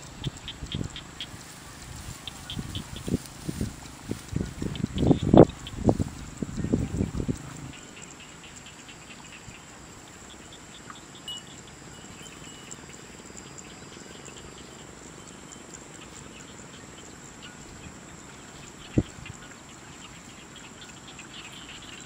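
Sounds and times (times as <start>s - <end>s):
high-pitched insect drone: 0.0s - 22.0s
short insect chirps: 0.0s - 22.0s.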